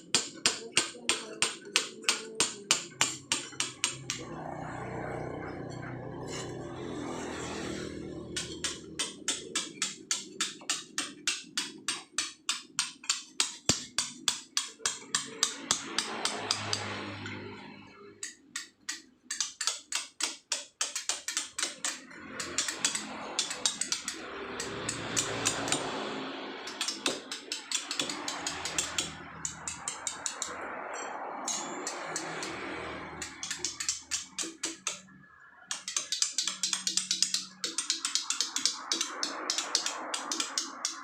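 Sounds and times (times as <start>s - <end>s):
hammer striking chisel on stone: 0.0s - 4.2s, 6.3s - 17.1s, 18.2s - 30.6s, 31.5s - 35.1s, 35.7s - 41.0s.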